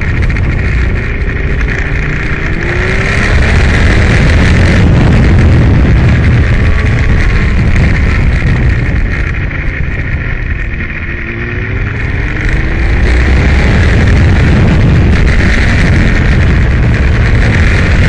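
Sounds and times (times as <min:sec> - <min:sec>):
motorcycle engine at speed: 0:00.0 - 0:18.0.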